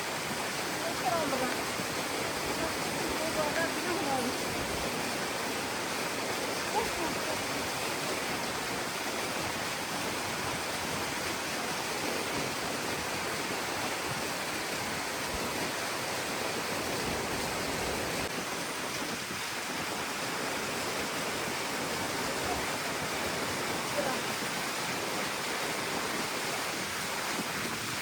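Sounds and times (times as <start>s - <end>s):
falling water rushing: 0.0s - 28.0s.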